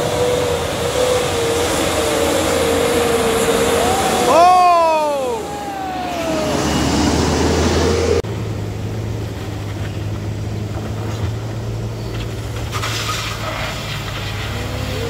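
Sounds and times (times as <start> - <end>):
diesel truck engine running: 0.0 - 12.7
car engine hum: 0.0 - 15.0
road noise on dirt: 0.0 - 15.0
rush of gritty noise: 0.0 - 15.0.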